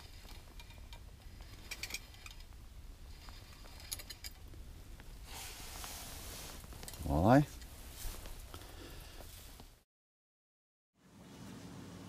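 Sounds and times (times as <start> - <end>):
low steady hum: 0.0 - 9.8
soft hiss: 0.0 - 9.8.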